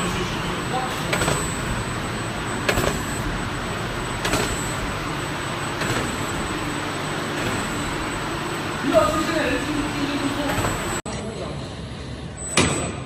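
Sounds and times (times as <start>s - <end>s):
machine knocking: 0.0s - 11.0s
machine running with high whine: 0.0s - 12.5s.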